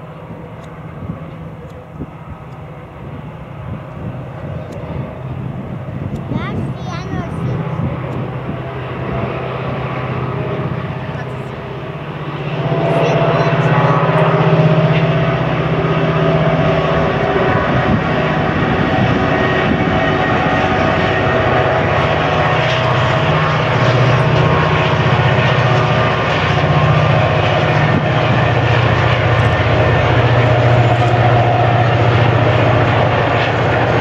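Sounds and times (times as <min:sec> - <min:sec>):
locomotive engines droning: 0:00.0 - 0:34.0.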